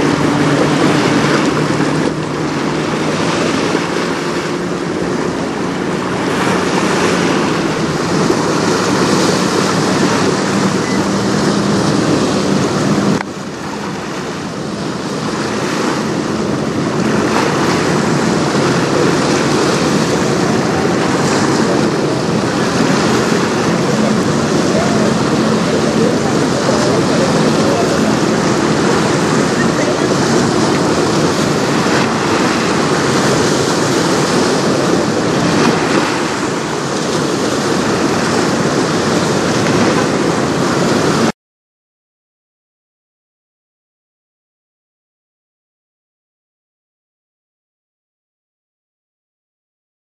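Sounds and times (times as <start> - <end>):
boat motor humming: 0.0 - 41.3
choppy river water washing: 0.0 - 41.3
wind: 0.0 - 41.3.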